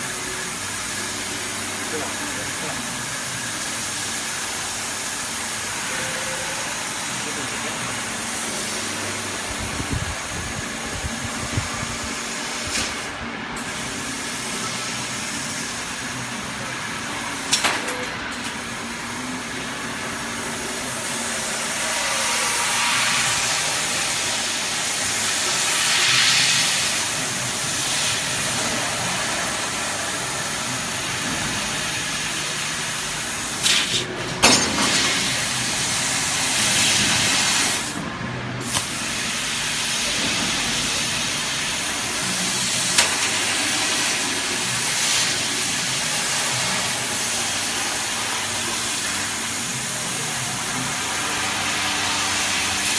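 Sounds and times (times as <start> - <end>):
laser cutter hissing: 0.0 - 52.9.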